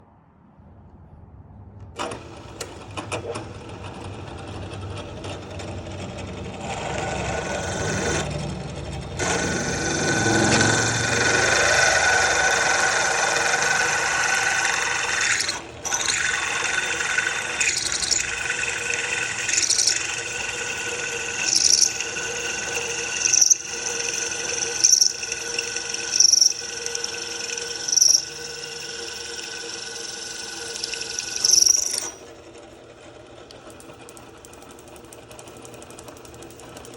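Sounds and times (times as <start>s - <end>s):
cutter squealing: 2.0s - 32.8s
milling machine whine: 2.0s - 36.9s.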